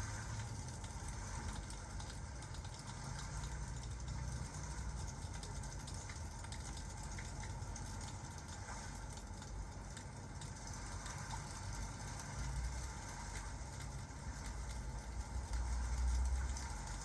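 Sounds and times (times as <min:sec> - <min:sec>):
low rumble and hiss: 0:00.0 - 0:17.0
rain: 0:00.0 - 0:17.0.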